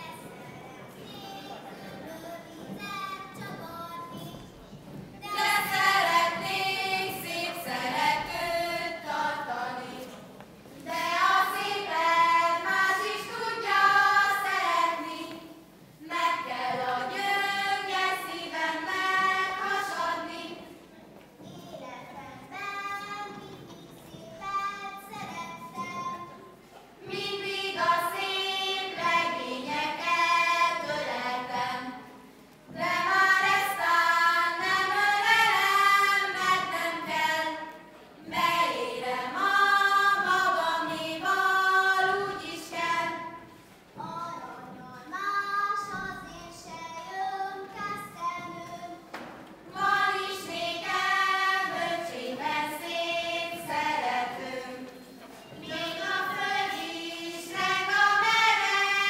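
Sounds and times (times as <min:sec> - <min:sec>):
girls singing folk song: 0:00.0 - 0:59.0.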